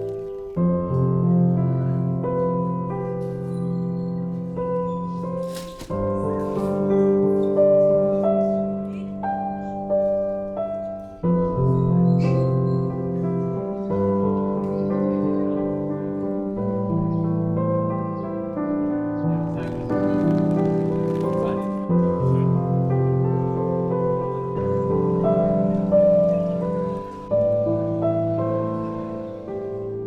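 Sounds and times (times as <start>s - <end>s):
slow keyboard chords: 0.0s - 30.0s.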